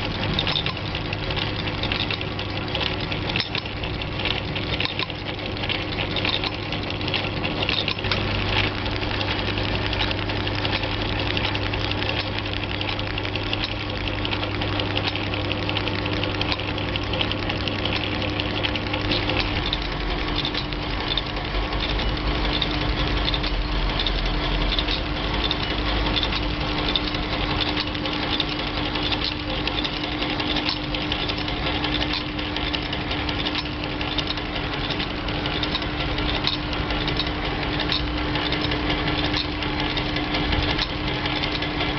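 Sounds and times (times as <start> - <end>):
sewing machine motor hum: 0.0 - 41.9
sewing machine stitching ticking: 0.0 - 41.9.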